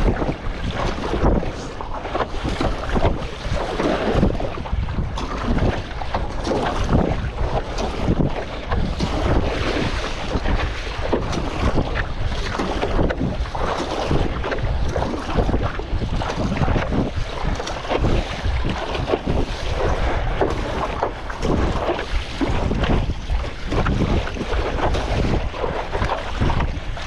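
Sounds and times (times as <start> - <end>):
water splashing and slapping: 0.0 - 27.0
wind buffeting the microphone: 0.0 - 27.0.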